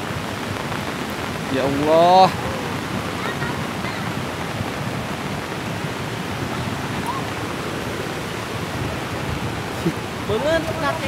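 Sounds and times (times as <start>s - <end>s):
heavy rain: 0.0s - 11.0s
rushing floodwater: 0.0s - 11.0s.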